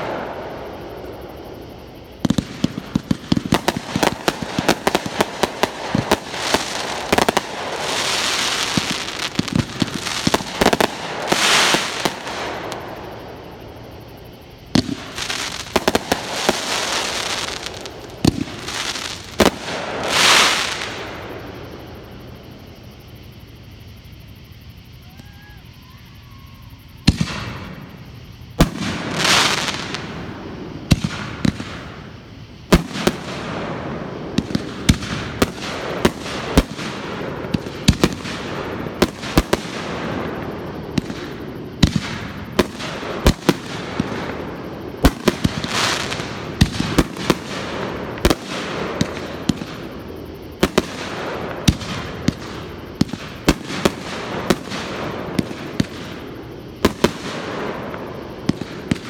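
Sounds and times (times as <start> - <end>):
fireworks crackling hiss: 0.0 - 59.0
fireworks bangs: 2.2 - 13.2, 14.7 - 21.5, 27.0 - 59.0.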